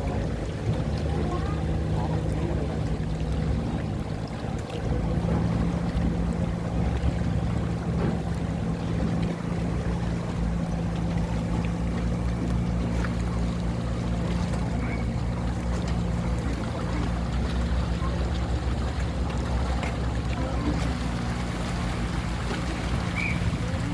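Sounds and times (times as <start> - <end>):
tugboat engine droning: 0.0 - 23.9.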